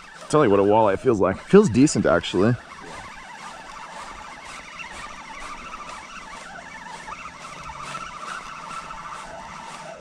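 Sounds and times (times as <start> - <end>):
fishing reel whirring: 0.0 - 10.0.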